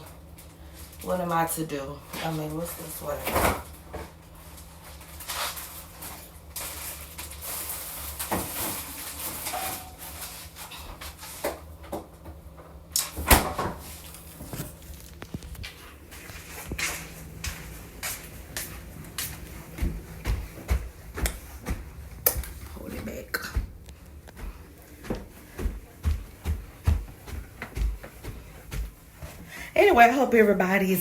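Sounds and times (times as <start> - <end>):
steady low hum: 0.0 - 31.0
items being handled: 2.2 - 12.3, 13.0 - 29.5.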